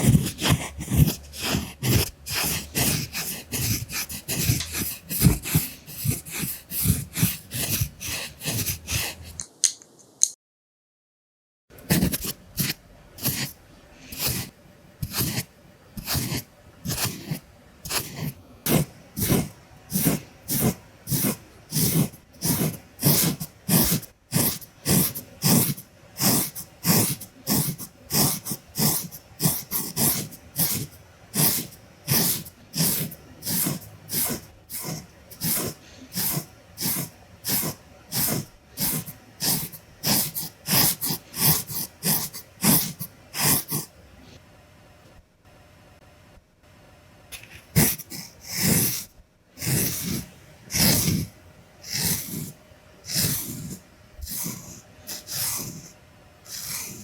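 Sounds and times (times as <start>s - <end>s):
pencil scratching strokes: 0.0s - 9.4s, 11.8s - 43.9s, 47.4s - 57.0s.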